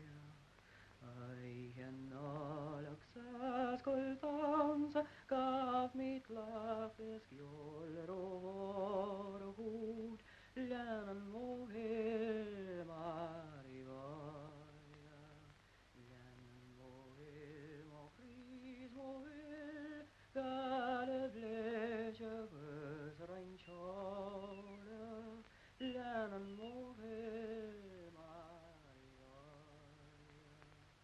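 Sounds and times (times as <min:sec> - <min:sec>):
person singing with vibrato: 0:00.0 - 0:31.0.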